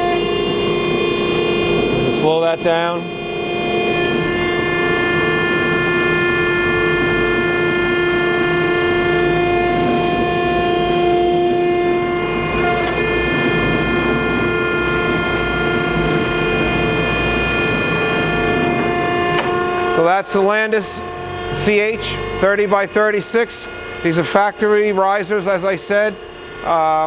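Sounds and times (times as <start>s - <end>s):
grinder whine and hum: 0.0s - 27.0s.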